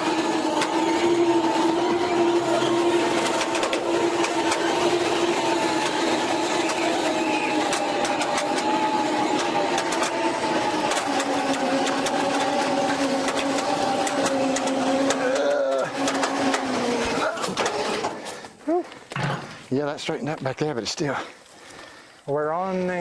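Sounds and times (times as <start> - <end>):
electric winch motor whining: 0.0 - 18.5.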